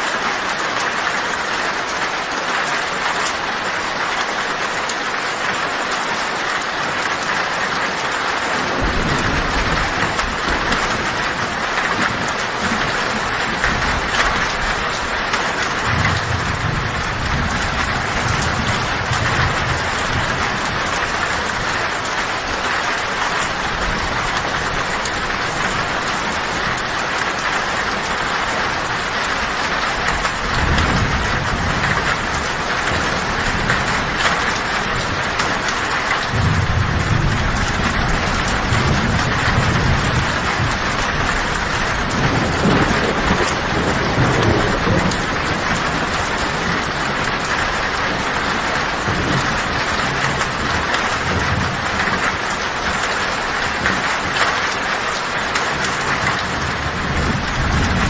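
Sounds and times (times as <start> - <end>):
heavy rain on a tin roof: 0.0 - 58.0
low thunder rumbles: 8.6 - 58.0.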